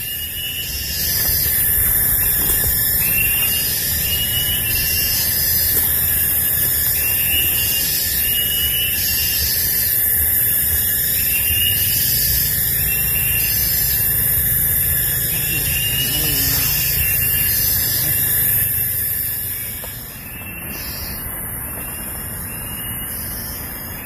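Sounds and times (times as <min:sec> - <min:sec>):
high-pitched insect buzz: 0:00.0 - 0:21.2.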